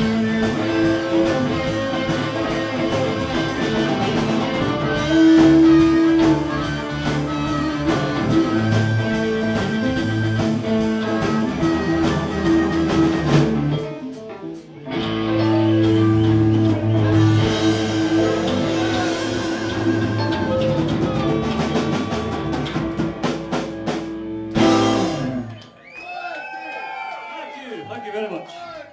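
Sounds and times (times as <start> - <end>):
blues-rock band playing: 0.0 - 25.8.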